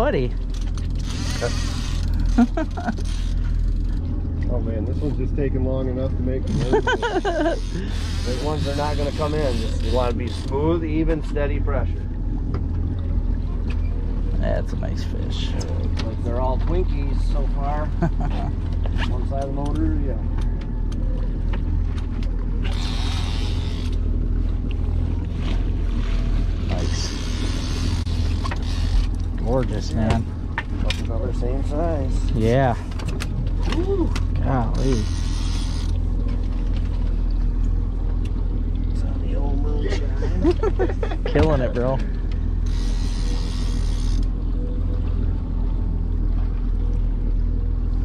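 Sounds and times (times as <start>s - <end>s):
outboard motors droning: 0.0s - 48.0s.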